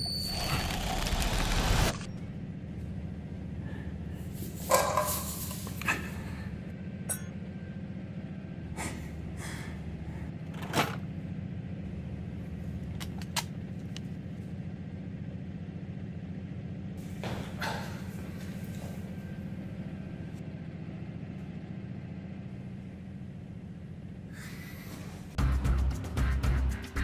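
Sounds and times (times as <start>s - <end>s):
train carriage rumble: 0.0s - 25.5s.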